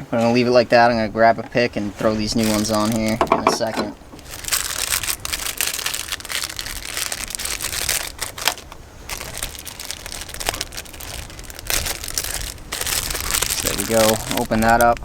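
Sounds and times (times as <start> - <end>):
plastic packaging crinkling: 2.3 - 15.0.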